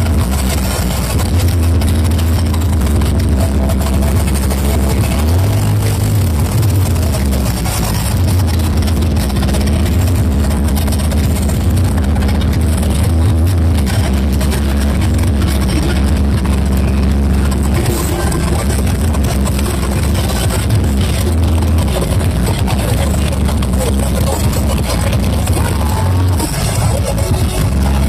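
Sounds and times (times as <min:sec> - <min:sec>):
loud sound system with heavy bass: 0:00.0 - 0:28.0.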